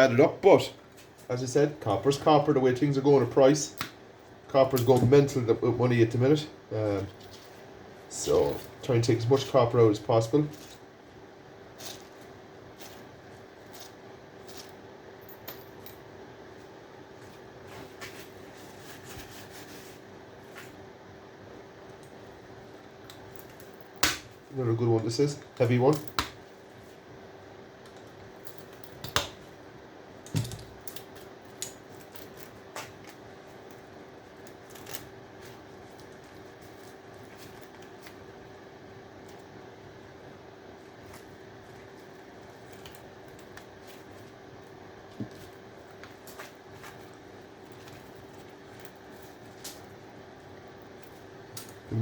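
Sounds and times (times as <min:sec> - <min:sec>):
faint hum: 0:00.0 - 0:52.0.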